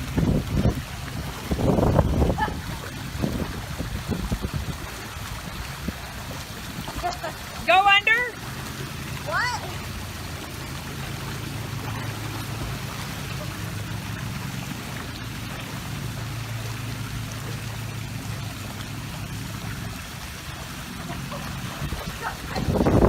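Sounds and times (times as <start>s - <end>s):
dog swimming in pool water: 0.0s - 23.0s
low steady rumble: 0.0s - 23.0s.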